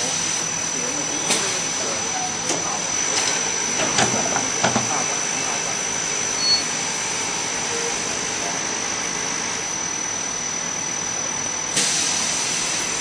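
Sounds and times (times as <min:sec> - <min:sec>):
machine whirring and whining: 0:00.0 - 0:13.0.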